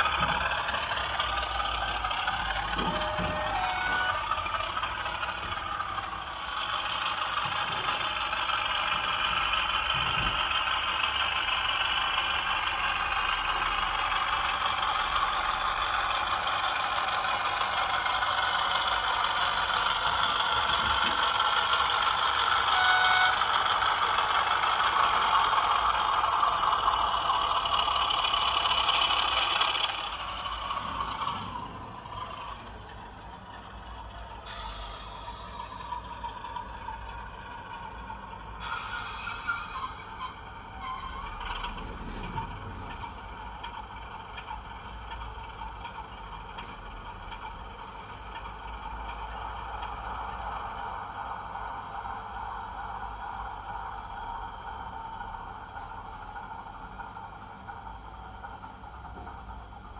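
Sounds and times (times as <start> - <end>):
diesel locomotive engine through small speaker: 0.0 - 59.9.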